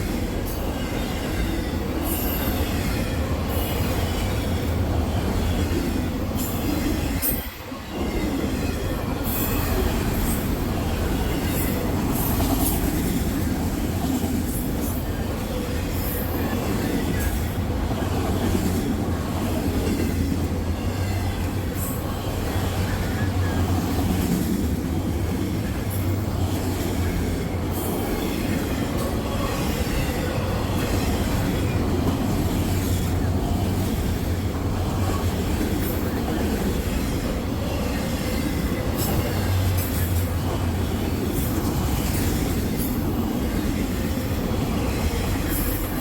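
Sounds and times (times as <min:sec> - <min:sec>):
rail clicks: 0:00.0 - 0:46.0
train wheels rumbling on rails: 0:00.0 - 0:46.0.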